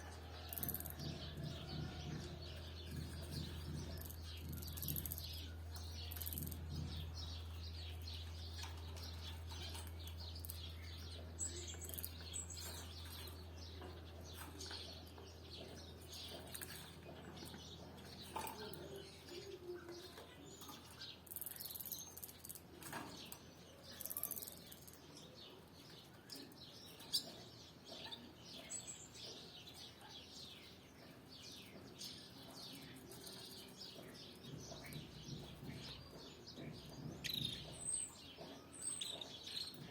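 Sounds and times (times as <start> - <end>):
canaries chirping softly: 0.0 - 39.9.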